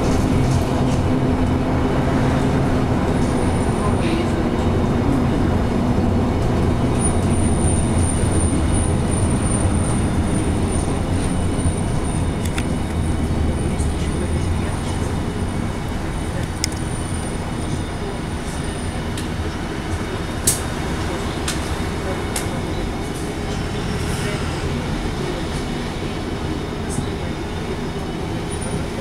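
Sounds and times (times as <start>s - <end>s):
bus engine humming: 0.0s - 29.0s
road and tyre rumble: 0.0s - 29.0s.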